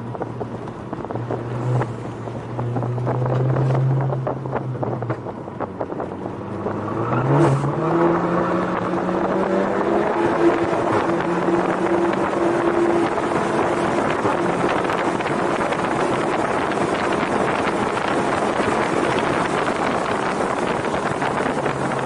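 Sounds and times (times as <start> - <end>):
car engine accelerating: 0.0 - 22.0
tyre and wind noise: 0.0 - 22.0.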